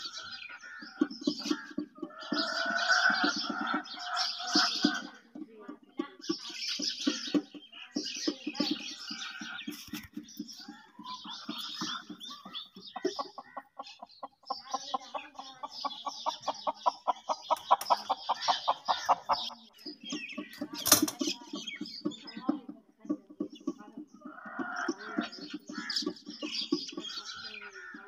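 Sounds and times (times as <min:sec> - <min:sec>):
chickens clucking: 0:00.0 - 0:28.0
small birds chirping: 0:00.0 - 0:28.0.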